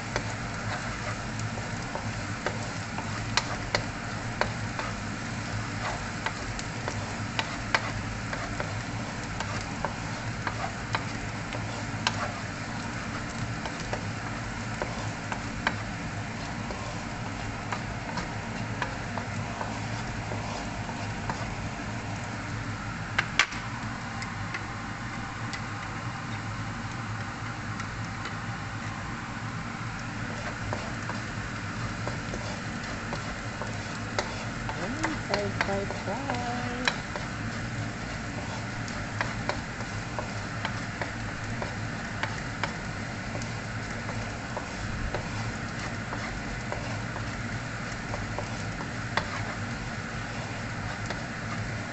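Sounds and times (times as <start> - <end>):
spatula stirring in wok: 0.0 - 26.6, 28.2 - 51.9
onion sizzling in hot oil: 0.0 - 51.9.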